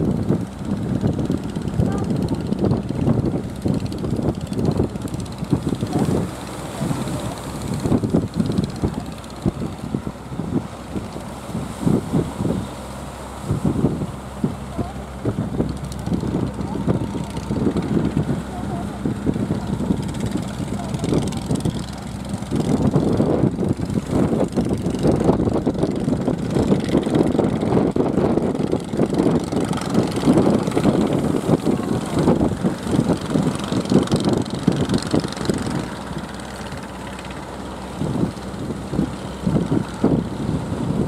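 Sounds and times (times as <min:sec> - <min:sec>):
boat engine rough drone: 0:00.0 - 0:41.0
steady low hum: 0:00.0 - 0:41.0.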